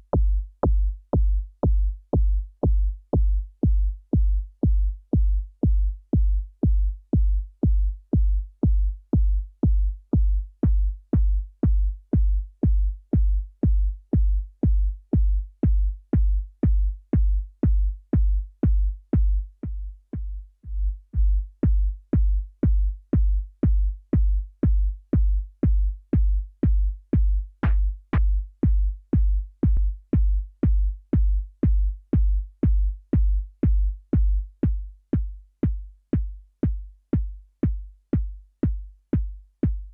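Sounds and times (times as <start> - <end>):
synthesized kick drum thumps: 0.0 - 39.9.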